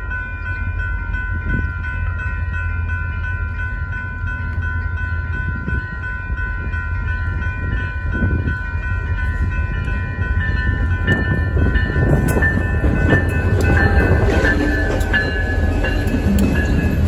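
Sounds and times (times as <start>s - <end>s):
low train rumble: 0.0s - 17.0s
railroad crossing bell ringing: 0.0s - 17.0s.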